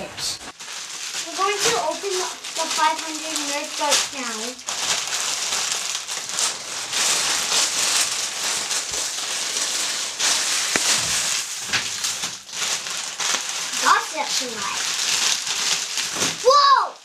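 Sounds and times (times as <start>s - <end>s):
packaging crinkling and crackling: 0.5s - 17.0s.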